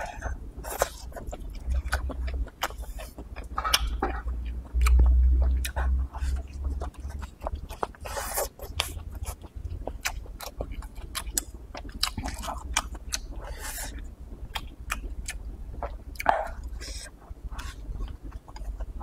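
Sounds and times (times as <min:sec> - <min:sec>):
wet chewing with clicks: 0:00.6 - 0:19.0.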